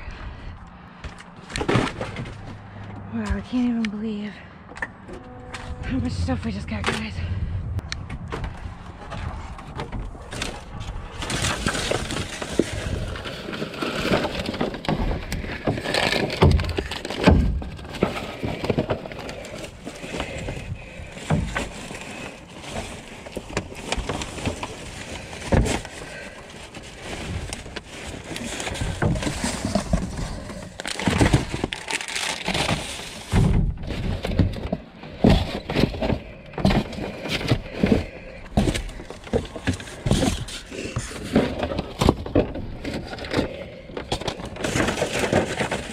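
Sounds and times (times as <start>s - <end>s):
rummaging through cardboard and plastic: 0.0s - 4.2s, 8.1s - 45.9s
knocks of items shifted: 0.9s - 3.7s, 4.6s - 45.9s.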